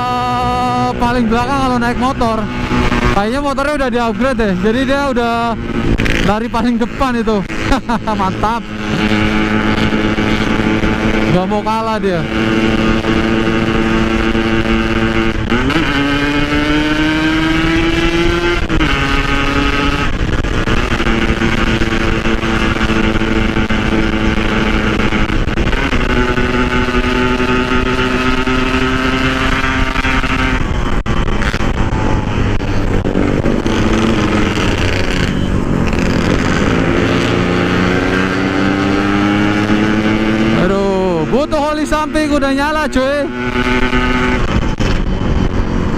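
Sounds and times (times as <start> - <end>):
motorcycle engine under load: 0.0 - 45.9.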